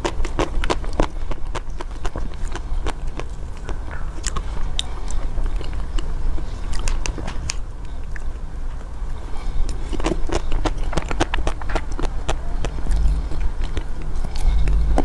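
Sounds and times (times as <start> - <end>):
wet mouth clicks: 0.0 - 8.3, 9.7 - 15.0
person chewing: 0.0 - 15.0
low rumble: 2.1 - 15.0.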